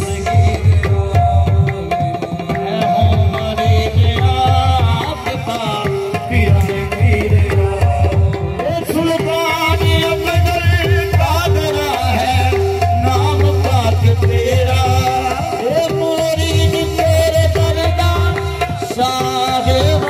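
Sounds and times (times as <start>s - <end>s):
tabla rhythm: 0.0s - 20.0s.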